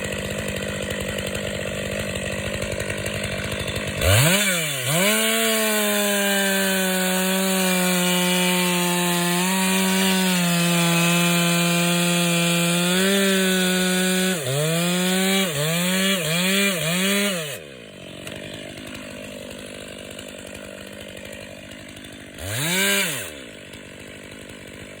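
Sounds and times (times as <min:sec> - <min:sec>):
chainsaw cutting wood: 0:00.0 - 0:25.0
chainsaw revving: 0:00.0 - 0:25.0.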